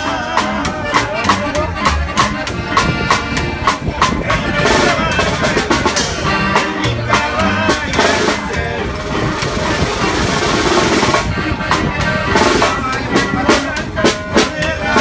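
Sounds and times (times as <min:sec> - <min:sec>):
accordion: 0:00.0 - 0:15.0
guitar: 0:00.0 - 0:15.0
upright bass: 0:00.0 - 0:15.0.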